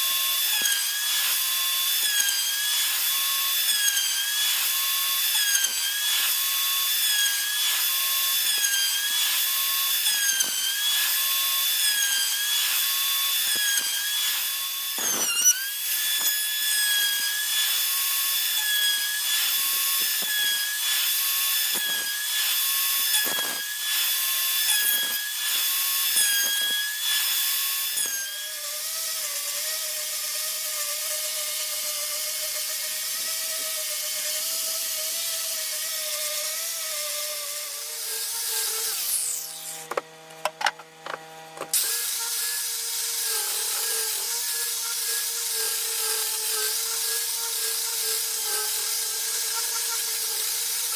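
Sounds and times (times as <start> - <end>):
router motor whining cutting wood: 0.0 - 50.9.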